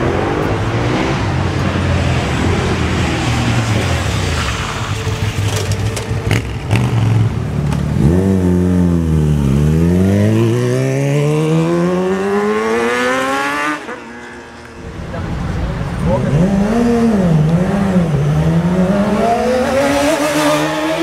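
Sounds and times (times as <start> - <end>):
motorcycle accelerating hard: 0.0 - 14.0, 16.0 - 21.0.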